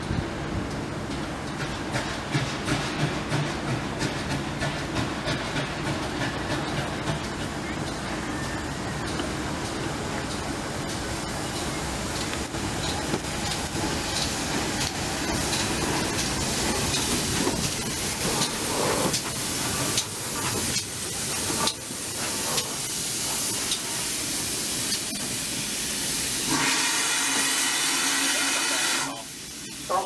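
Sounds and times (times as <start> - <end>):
steam locomotive hissing: 0.3 - 30.0.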